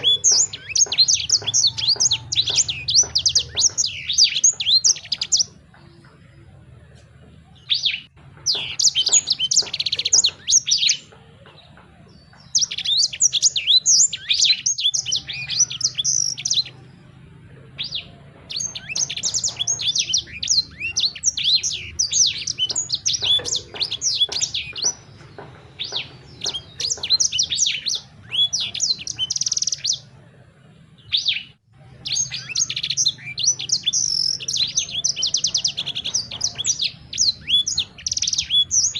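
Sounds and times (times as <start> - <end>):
faint low hum: 0.0 - 38.9
songbird chirping and trilling: 0.0 - 38.9.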